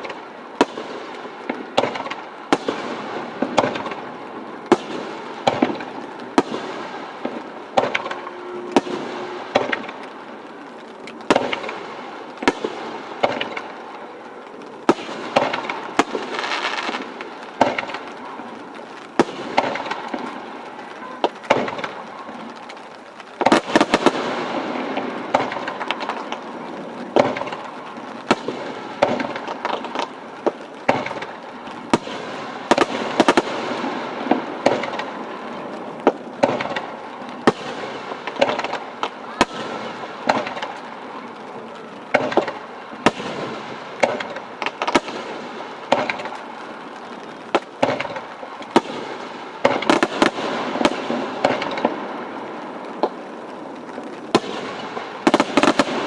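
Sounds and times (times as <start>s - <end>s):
firework crackling: 0.0s - 56.0s
firework shells bursting: 0.0s - 56.0s.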